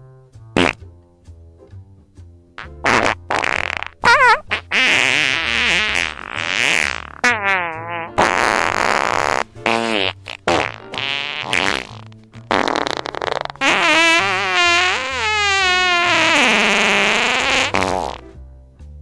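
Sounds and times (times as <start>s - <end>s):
background music with bass: 0.0s - 19.0s
fart sounds: 0.6s - 0.8s, 2.6s - 18.4s.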